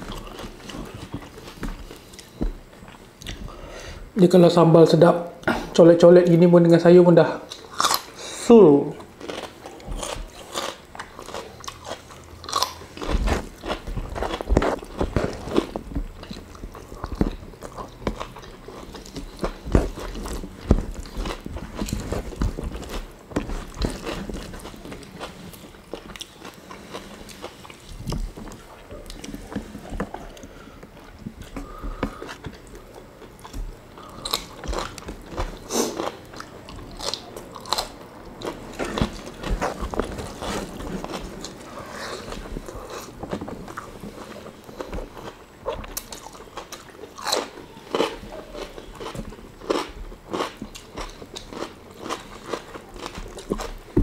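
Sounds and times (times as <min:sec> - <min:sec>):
people chewing and crunching: 0:00.0 - 0:04.1, 0:07.4 - 0:54.0.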